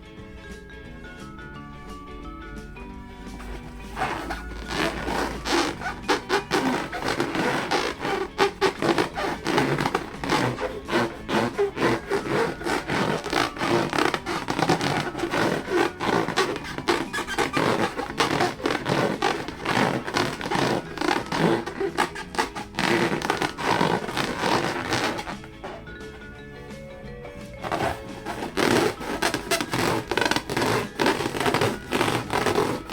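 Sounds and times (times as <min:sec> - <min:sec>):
rubber balloons being rubbed: 0:03.4 - 0:26.3, 0:27.6 - 0:32.9.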